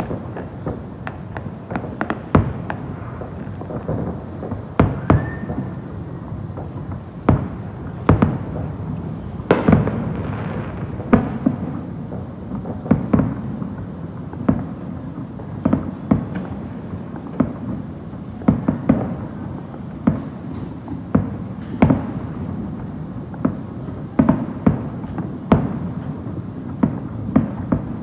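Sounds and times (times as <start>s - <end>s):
fireworks booming: 0.0s - 28.0s.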